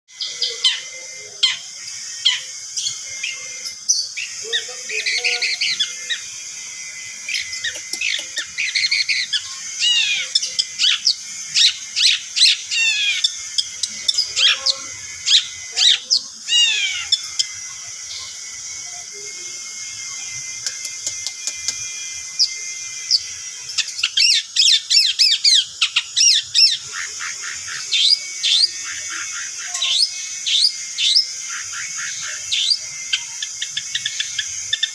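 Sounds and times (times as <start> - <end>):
shrike singing: 0.1 - 34.9.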